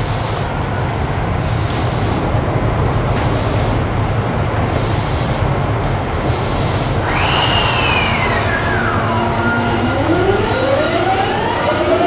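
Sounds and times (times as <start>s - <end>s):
electric train humming and hissing: 0.0s - 12.0s.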